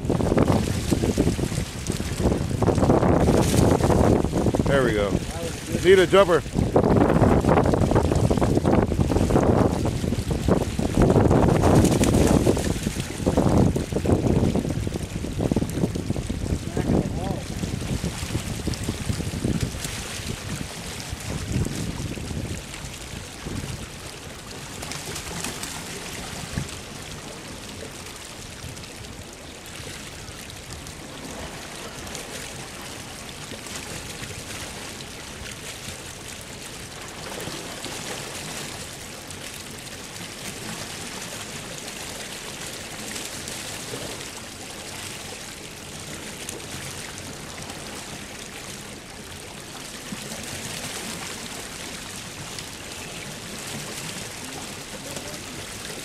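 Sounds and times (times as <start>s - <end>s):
water rushing over a weir: 0.0s - 56.0s.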